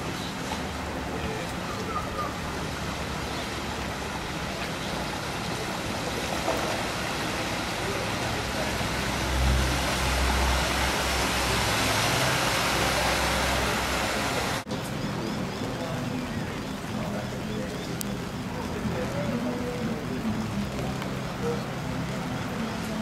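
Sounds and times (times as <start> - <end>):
churning water: 0.0 - 23.0
wind: 0.0 - 23.0.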